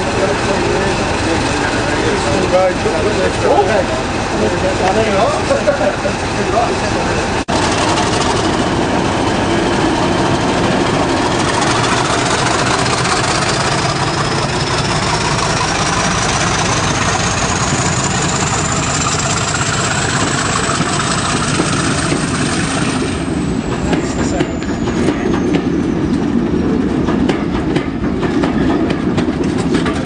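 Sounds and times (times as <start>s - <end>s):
diesel locomotive engine: 0.0s - 30.0s.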